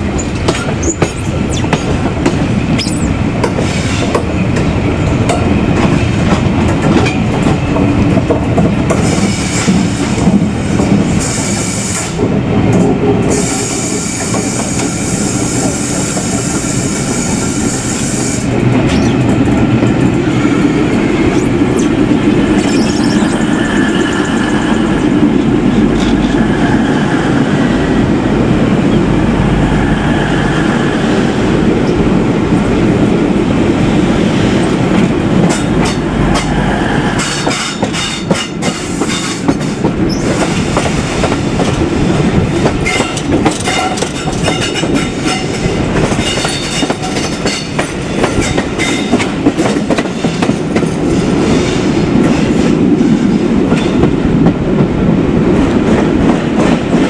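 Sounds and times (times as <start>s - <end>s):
diesel train passing: 0.0s - 57.0s.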